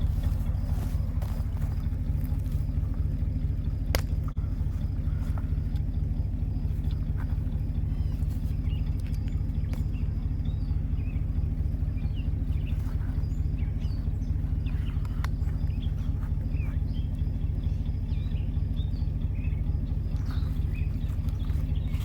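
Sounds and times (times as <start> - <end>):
birds chirping: 0.0 - 22.0
car engine running: 0.0 - 22.0.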